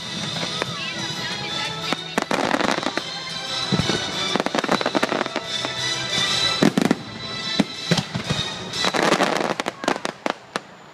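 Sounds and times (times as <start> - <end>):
background music: 0.0 - 10.1
fireworks bursting and crackling: 0.0 - 10.9.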